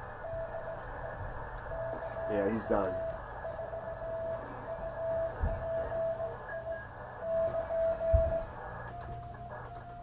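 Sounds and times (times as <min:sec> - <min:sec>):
morse code tone: 0:00.0 - 0:10.0
receiver hiss: 0:00.0 - 0:10.0.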